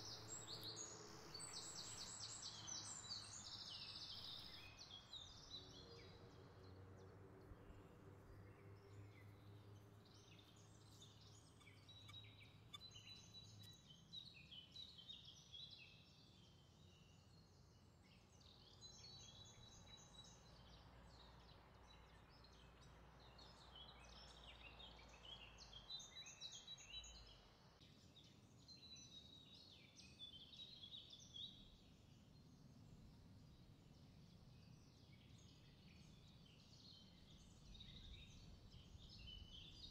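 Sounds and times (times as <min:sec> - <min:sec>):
small birds chirping: 0:00.0 - 0:06.8, 0:07.6 - 0:39.9.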